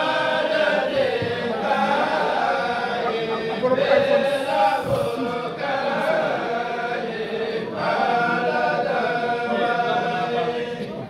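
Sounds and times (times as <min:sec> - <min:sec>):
group of men chanting: 0:00.0 - 0:11.0.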